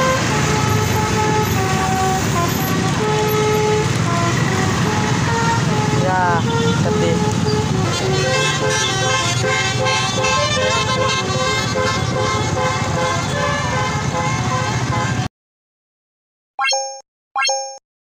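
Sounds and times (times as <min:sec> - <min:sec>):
multi-tone bus horn tune: 0:00.0 - 0:15.3.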